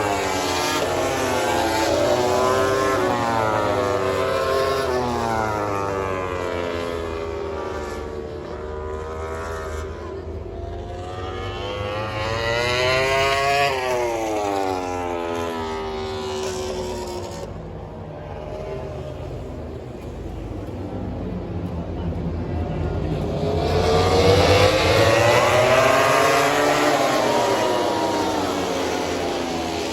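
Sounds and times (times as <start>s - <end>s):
race motorcycles passing at speed: 0.0s - 29.9s.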